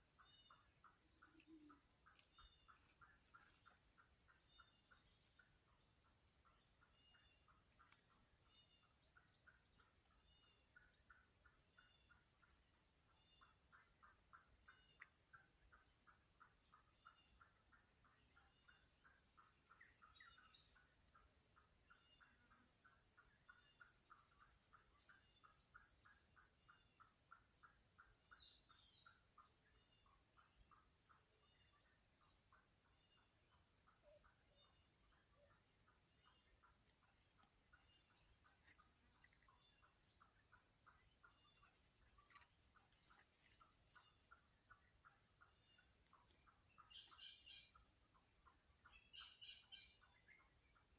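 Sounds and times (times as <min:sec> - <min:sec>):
pulsing insect call: 0:00.0 - 0:50.9
short insect chirps: 0:00.0 - 0:50.9.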